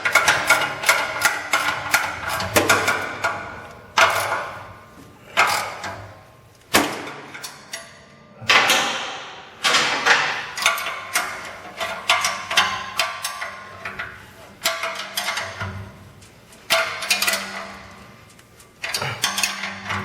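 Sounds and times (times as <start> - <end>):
metal pipes clanking: 0.0 - 20.0.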